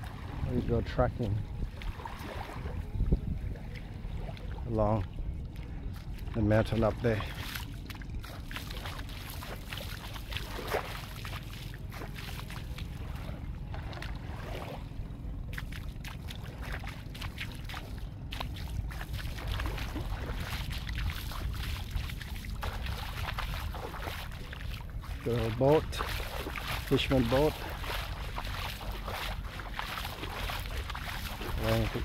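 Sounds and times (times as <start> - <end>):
water lapping at shoreline: 0.0 - 32.0
wind rumble on microphone: 0.0 - 32.0.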